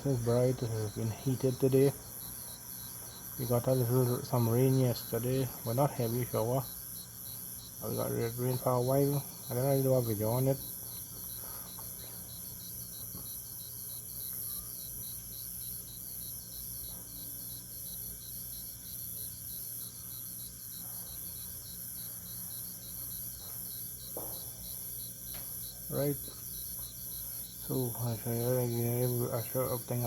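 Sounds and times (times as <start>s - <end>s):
continuous insect trill: 0.0s - 30.0s
crickets chirping: 0.0s - 30.0s.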